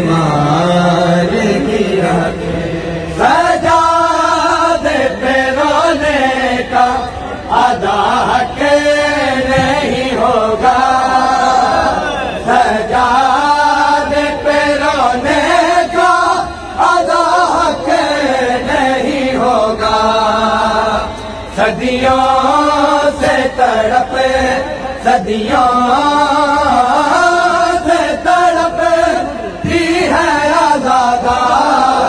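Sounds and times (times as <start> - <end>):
men chanting a lament: 0.0 - 32.0.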